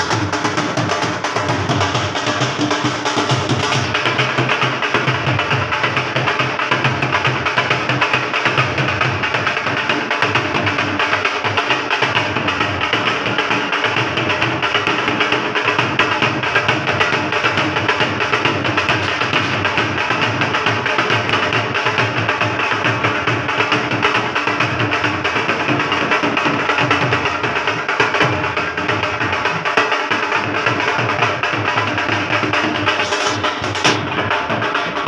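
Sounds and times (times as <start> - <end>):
barrel drums beaten fast: 0.0 - 35.0.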